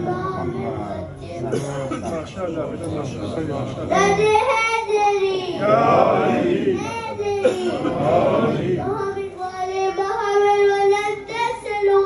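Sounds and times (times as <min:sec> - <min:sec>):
boy chanting into a microphone: 0:00.0 - 0:01.8, 0:03.9 - 0:12.0.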